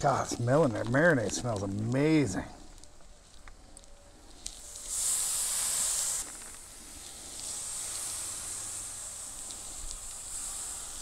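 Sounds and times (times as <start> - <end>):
steak sizzling on a grill: 0.0 - 11.0.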